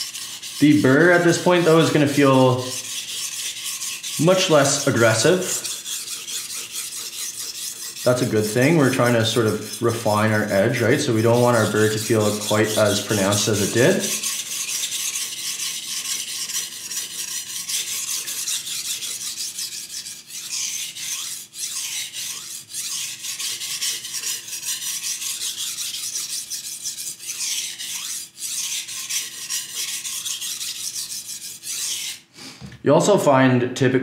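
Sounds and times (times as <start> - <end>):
knife scraping on whetstone: 0.0 - 32.3.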